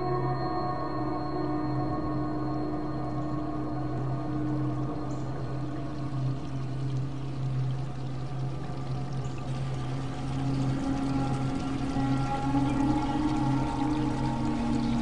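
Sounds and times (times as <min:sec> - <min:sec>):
low sustained music tones: 0:00.0 - 0:15.0.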